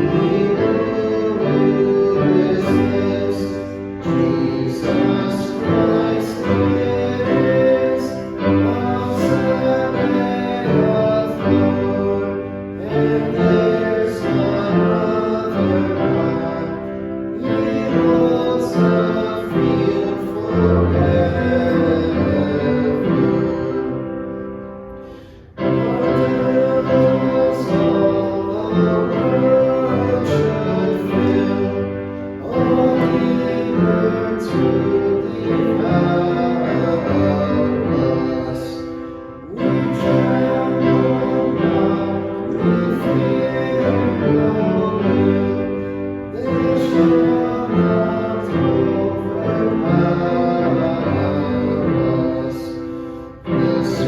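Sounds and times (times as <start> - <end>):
instrumental accompaniment: 0.0 - 54.0
voices singing a hymn: 0.0 - 54.0.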